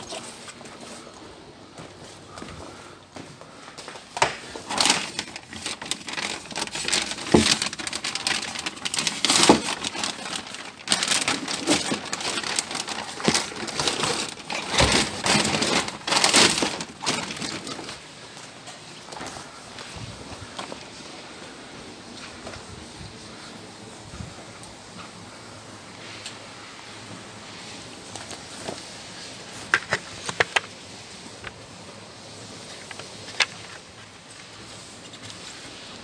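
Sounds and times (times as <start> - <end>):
plastic sheet crinkling: 0.0 - 1.2, 3.5 - 23.6, 27.5 - 36.0.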